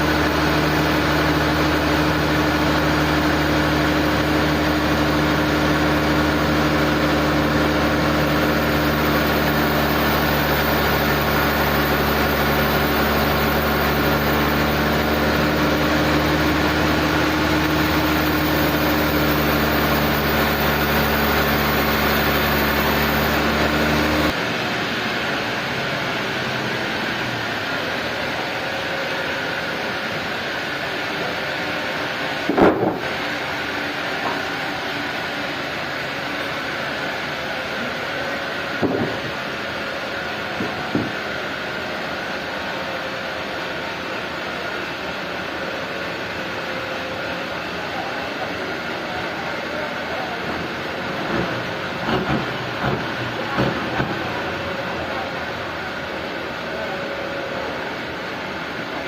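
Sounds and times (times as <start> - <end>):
sawmill engine low drone: 0.0 - 59.0
steady mechanical hum: 0.0 - 59.0.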